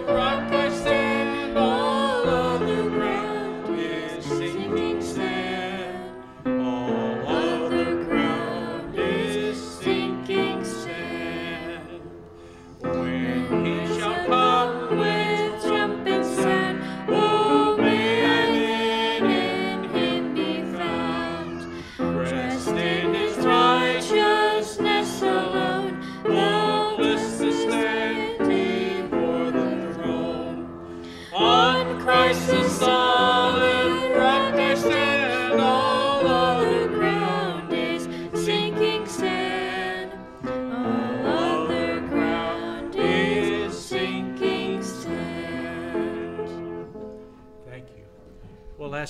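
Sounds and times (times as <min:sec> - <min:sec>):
man and girl singing a hymn: 0:00.0 - 0:47.0.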